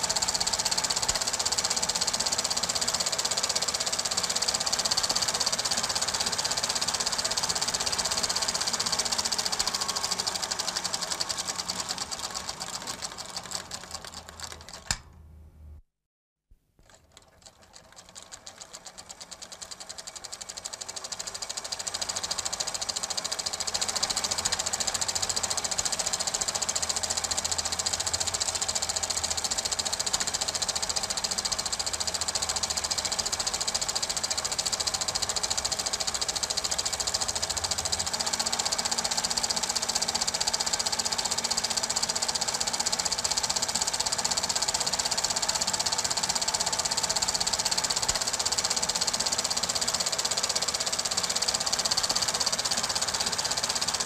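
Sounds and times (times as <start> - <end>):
film projector clatter: 0.0 - 15.1, 16.8 - 54.0.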